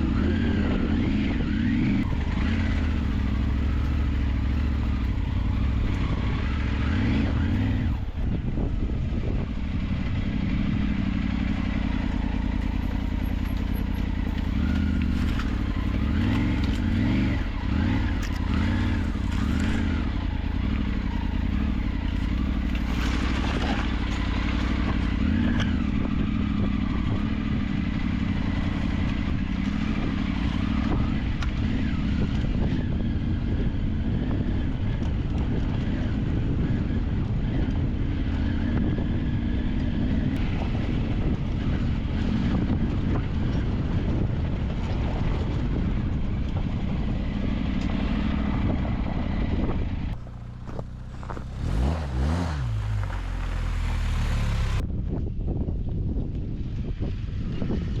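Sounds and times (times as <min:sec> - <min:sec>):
vehicle engine revving: 0:00.0 - 0:54.8.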